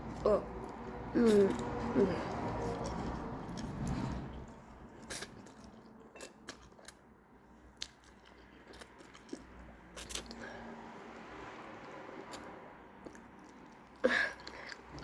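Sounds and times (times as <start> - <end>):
person chewing food: 0.0 - 10.7, 11.8 - 15.0.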